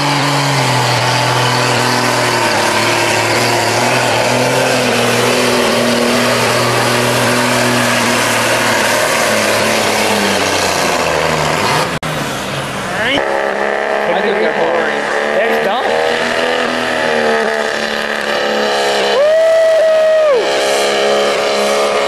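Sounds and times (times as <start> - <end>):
diesel engine under heavy load: 0.0 - 22.0.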